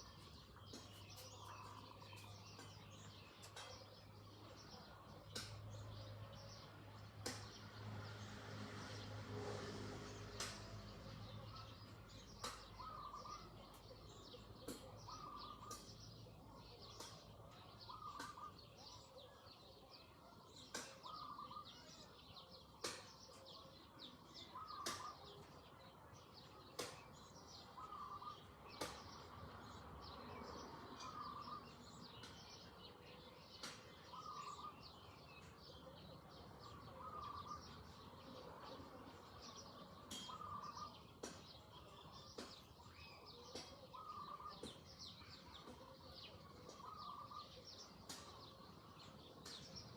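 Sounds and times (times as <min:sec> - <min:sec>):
small high bird chirps: 0:00.0 - 0:07.6, 0:10.2 - 0:49.9.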